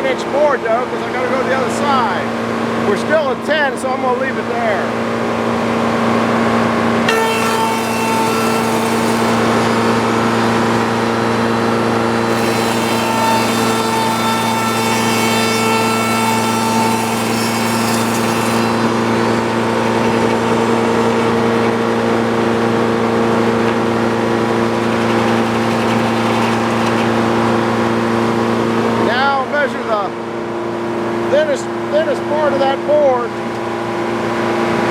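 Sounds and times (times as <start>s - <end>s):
sawmill engine running: 0.0s - 34.9s.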